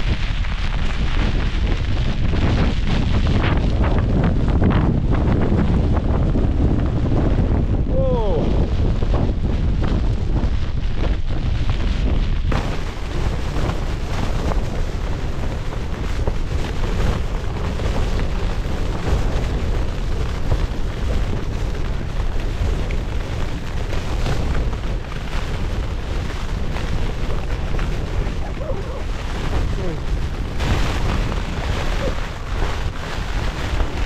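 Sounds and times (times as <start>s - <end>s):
tent flysheet flapping: 0.0s - 34.0s
wind rumble on microphone: 0.0s - 34.0s.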